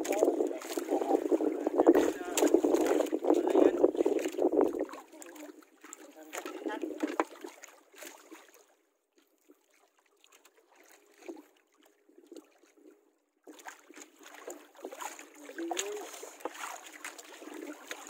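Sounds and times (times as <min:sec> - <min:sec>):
water lapping around boat: 0:00.0 - 0:18.0.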